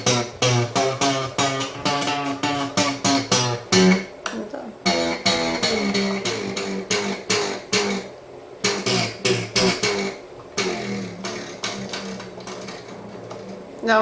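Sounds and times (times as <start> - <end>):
acoustic guitar strumming: 0.0 - 4.2, 4.8 - 13.6.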